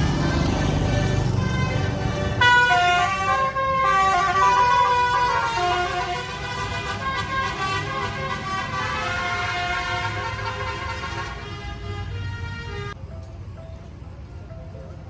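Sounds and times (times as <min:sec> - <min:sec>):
bus multi-tone horn tune: 0:00.0 - 0:13.7
bus engine rumble: 0:00.0 - 0:15.0.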